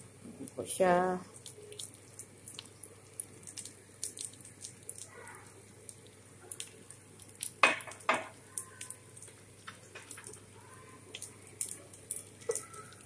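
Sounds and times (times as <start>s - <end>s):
wooden spoon stirring: 1.3s - 13.0s.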